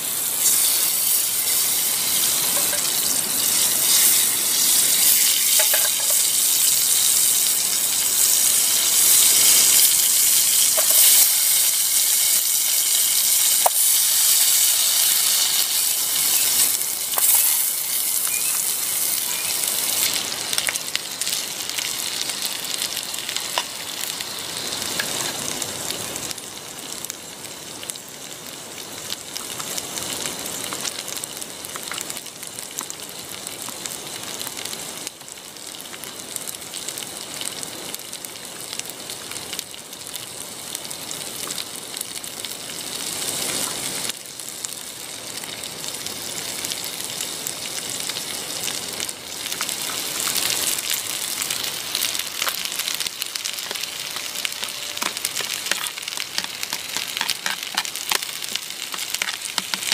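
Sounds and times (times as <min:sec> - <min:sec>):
potatoes sizzling in a pan: 0:00.0 - 0:59.9.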